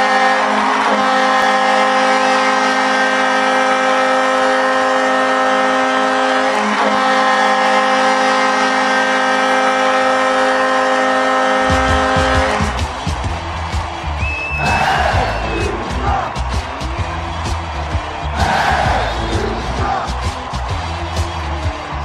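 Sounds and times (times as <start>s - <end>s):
ice hockey goal horn: 0.0s - 22.0s.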